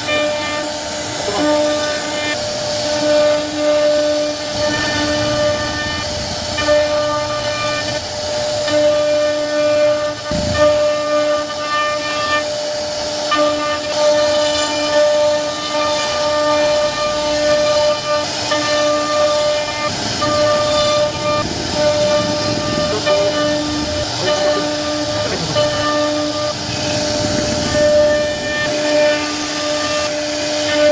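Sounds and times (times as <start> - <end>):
bit rasping through wood: 0.0 - 12.5, 13.3 - 30.9
router spindle whining: 0.0 - 30.9.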